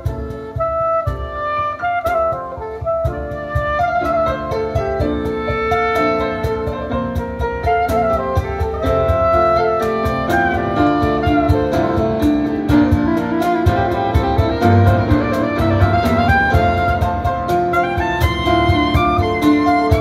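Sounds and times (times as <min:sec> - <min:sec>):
cajon beat: 0:00.0 - 0:20.0
piano chords: 0:00.0 - 0:20.0
soprano saxophone jazz melody: 0:00.0 - 0:20.0.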